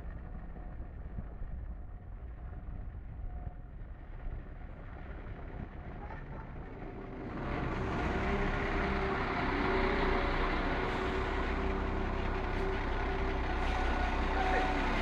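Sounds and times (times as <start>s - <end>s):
diesel train engine: 0.0s - 15.0s
train wheel and rail noise: 0.1s - 15.0s.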